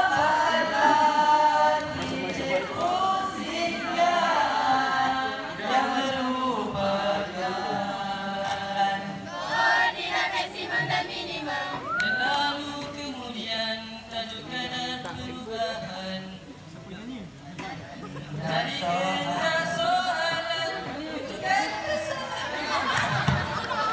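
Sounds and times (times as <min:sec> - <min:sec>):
young voices singing a cappella: 0:00.0 - 0:16.5, 0:17.6 - 0:23.9.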